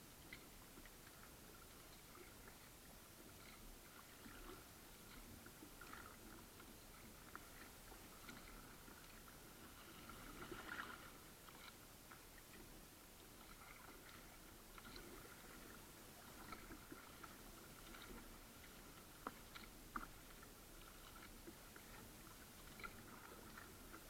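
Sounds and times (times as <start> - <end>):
paddle water splashes: 0.0 - 24.0.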